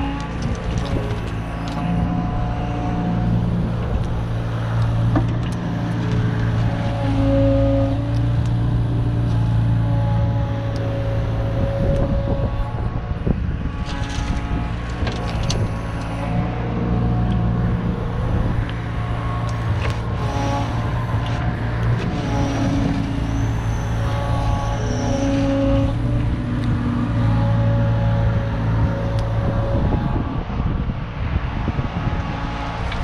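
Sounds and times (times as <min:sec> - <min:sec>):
diesel engine under load: 0:00.0 - 0:33.0
hydraulics whining: 0:00.0 - 0:33.0.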